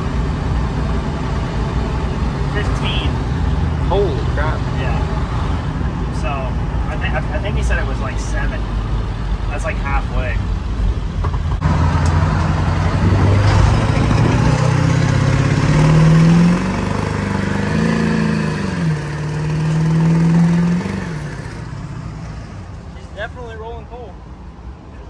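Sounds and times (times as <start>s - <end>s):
van engine accelerating: 0.0s - 23.3s
road noise: 0.0s - 25.0s.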